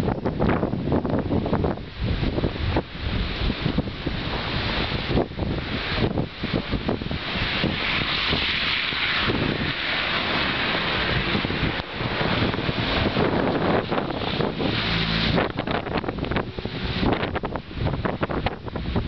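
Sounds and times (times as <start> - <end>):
blizzard wind gusting: 0.0 - 19.0
wind buffeting microphone: 0.0 - 19.0.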